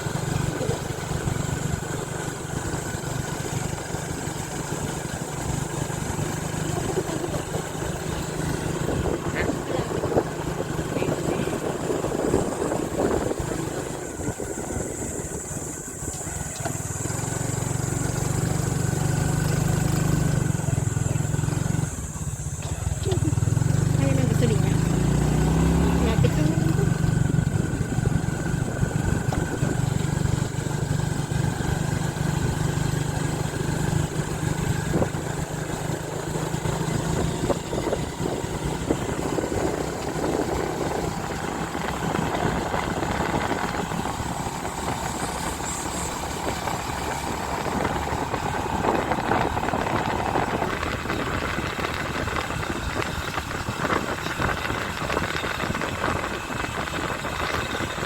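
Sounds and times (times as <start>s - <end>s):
wind on microphone: 0.0s - 19.1s, 20.4s - 58.0s
motorcycle engine drone: 0.0s - 58.0s
road noise: 0.0s - 58.0s.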